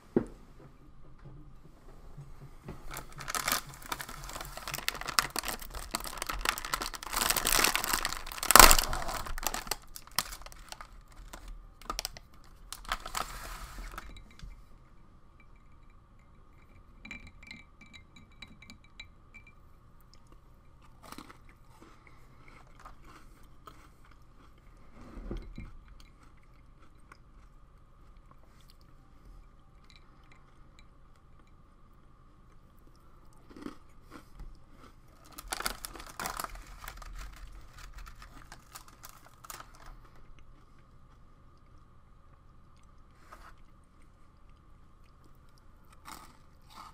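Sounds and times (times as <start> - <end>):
person chewing cookies: 2.8 - 18.7, 19.7 - 46.9.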